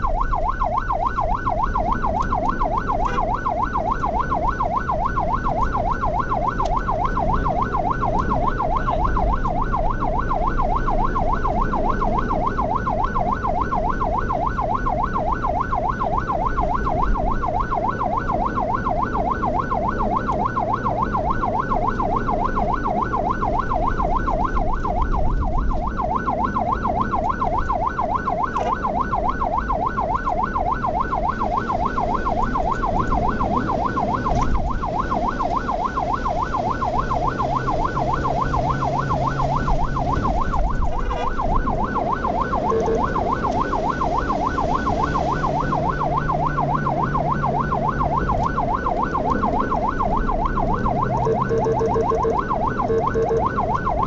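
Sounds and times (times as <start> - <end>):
ambulance siren yelping: 0.0 - 54.0
engine and road noise: 0.0 - 54.0.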